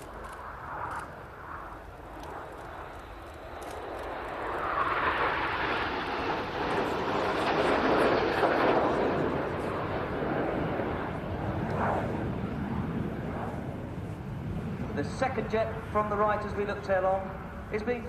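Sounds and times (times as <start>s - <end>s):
jets flying past: 0.0s - 18.0s.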